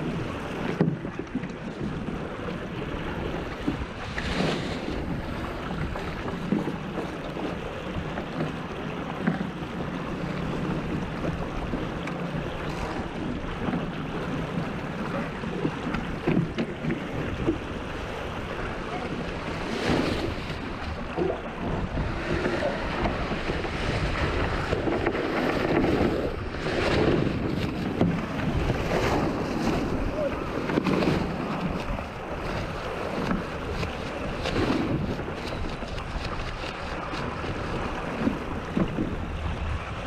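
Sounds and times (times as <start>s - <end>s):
water rushing along hull: 0.0s - 40.0s
wind buffeting microphone: 0.0s - 40.0s.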